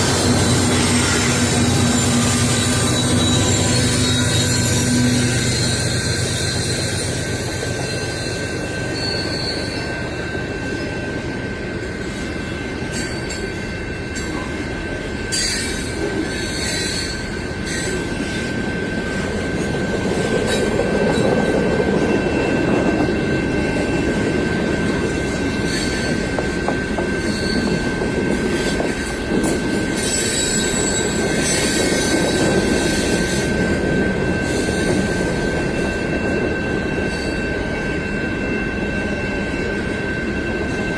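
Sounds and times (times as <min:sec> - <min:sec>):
wheel squeal: 0:00.0 - 0:11.2, 0:12.0 - 0:19.6, 0:20.3 - 0:29.1, 0:29.8 - 0:40.9
train wheels rumbling on rail: 0:00.0 - 0:40.9.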